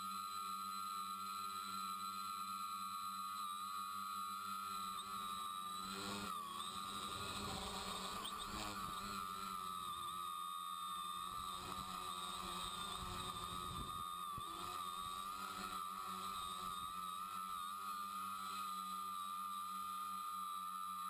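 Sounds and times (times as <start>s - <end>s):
electric motors and propellers whining: 0.0s - 21.0s.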